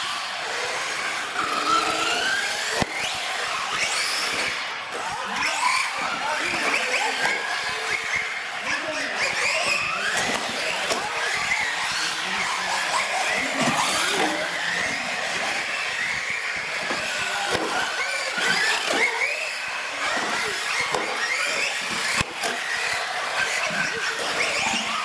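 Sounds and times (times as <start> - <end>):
tires squealing: 0.0 - 25.0
toy car motors whining: 0.0 - 25.0.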